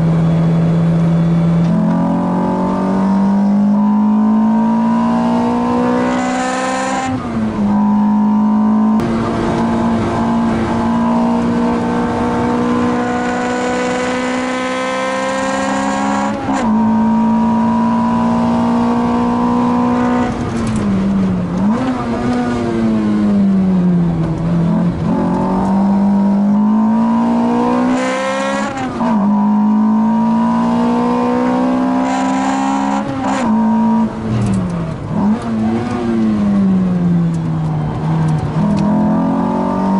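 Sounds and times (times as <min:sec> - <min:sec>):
car engine at high revs: 0:00.0 - 0:39.9.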